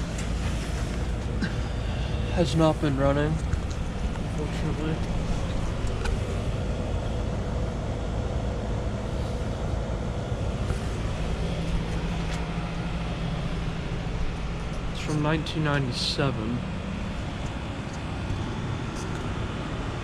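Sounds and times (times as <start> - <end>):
heat pump unit humming: 0.0 - 20.0.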